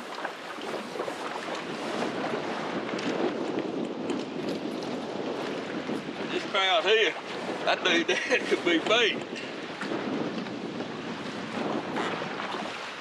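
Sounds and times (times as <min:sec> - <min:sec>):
choppy water against boat: 0:00.0 - 0:13.0
strong wind buffeting microphone: 0:00.0 - 0:13.0.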